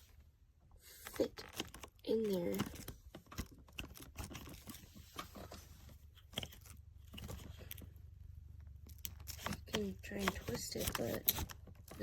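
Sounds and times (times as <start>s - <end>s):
plastic parts clicking and knocking: 1.0s - 8.0s, 8.6s - 12.0s.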